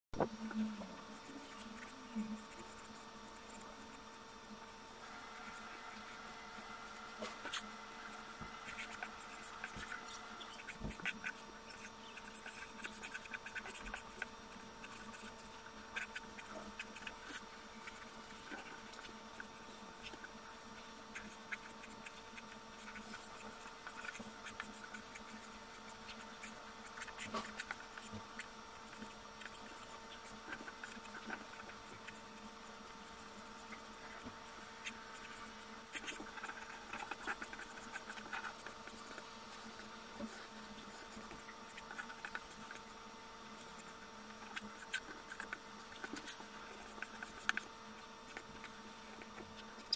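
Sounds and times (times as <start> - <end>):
low steady hum: 0.2 - 49.9
pencil scratching on paper: 1.0 - 4.4, 5.0 - 49.9.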